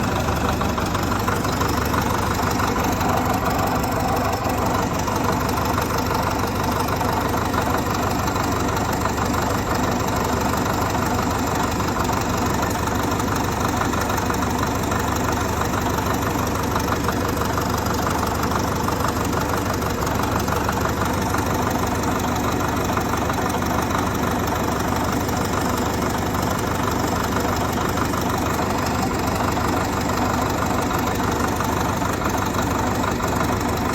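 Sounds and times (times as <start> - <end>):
bulldozer diesel engine idling: 0.0 - 33.9.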